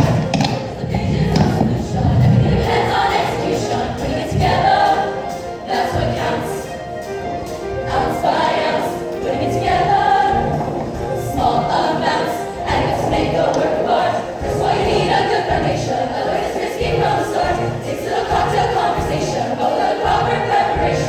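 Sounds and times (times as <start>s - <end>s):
female choir singing in harmony: 0.0s - 21.0s.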